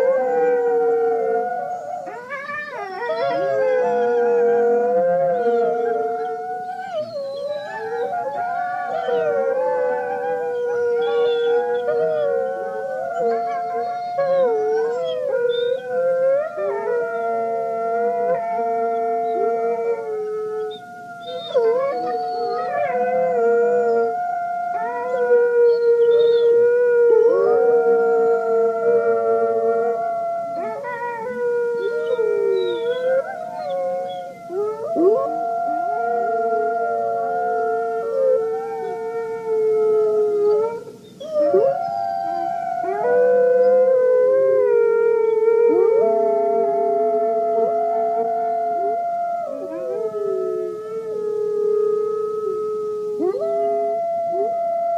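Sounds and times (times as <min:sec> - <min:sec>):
dogs howling in chorus: 0:00.0 - 0:54.9.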